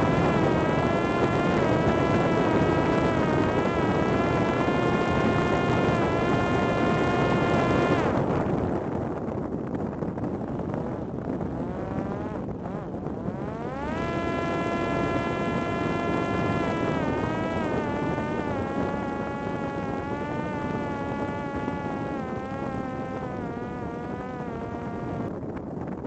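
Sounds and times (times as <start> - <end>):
drone motor buzzing whine: 0.0 - 9.0, 9.8 - 25.5.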